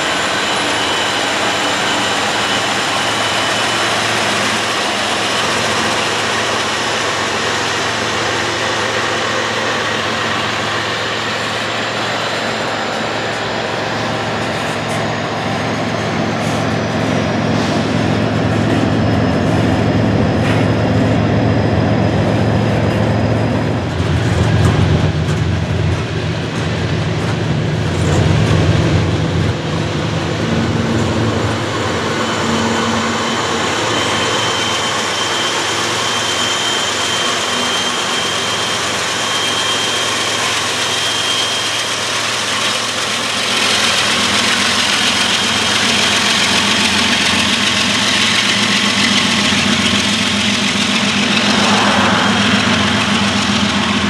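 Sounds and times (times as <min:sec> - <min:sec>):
diesel locomotive engine: 0:00.0 - 0:54.0
freight train rolling on rails: 0:00.0 - 0:54.0.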